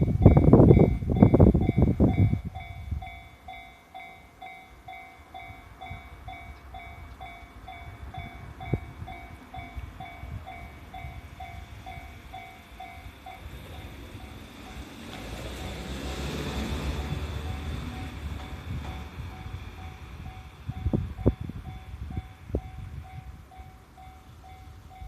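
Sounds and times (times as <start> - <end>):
level-crossing warning bell: 0.0 - 25.0.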